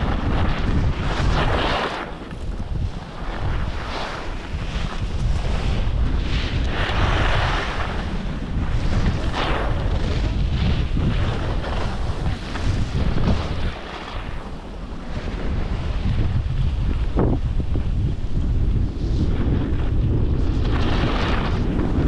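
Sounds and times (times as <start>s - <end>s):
skis sliding on packed snow: 0.0s - 22.0s
wind buffeting microphone: 0.0s - 22.0s.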